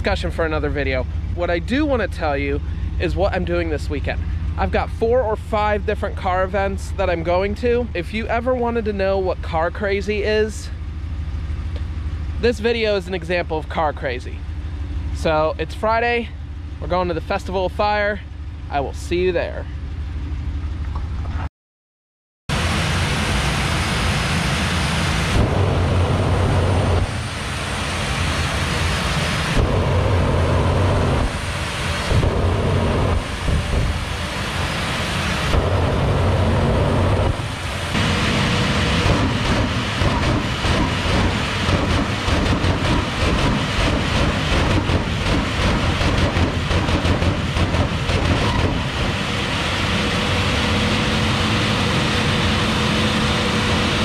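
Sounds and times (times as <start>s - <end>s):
jet engine roaring: 0.0s - 18.1s, 22.5s - 54.0s.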